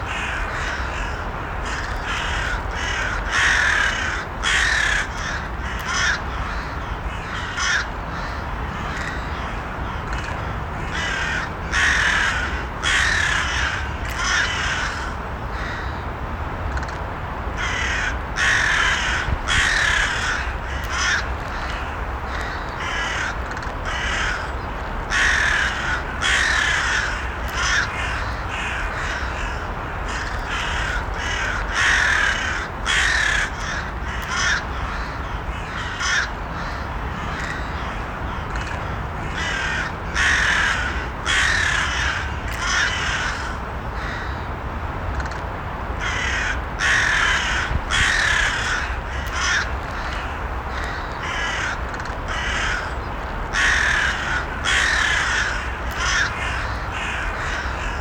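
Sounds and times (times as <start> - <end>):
crows cawing: 0.0 - 16.0, 17.6 - 44.4, 46.0 - 58.0.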